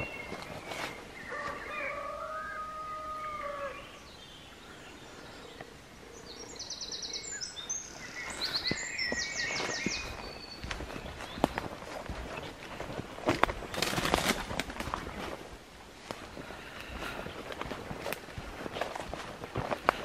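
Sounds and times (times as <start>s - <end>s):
footsteps on woodland path: 0.0s - 5.8s, 6.4s - 20.0s
songbirds singing: 0.0s - 20.0s.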